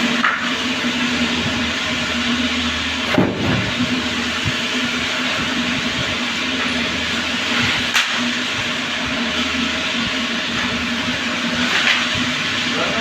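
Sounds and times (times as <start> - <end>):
electric planer running: 0.0 - 13.0.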